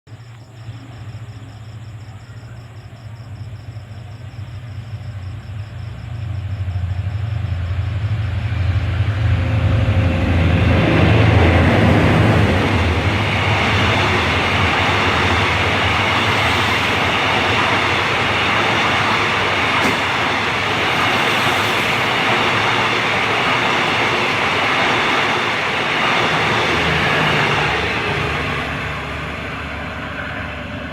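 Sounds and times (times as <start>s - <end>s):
locomotive engine hum: 0.1s - 30.9s
train wheels on rail: 0.2s - 30.9s.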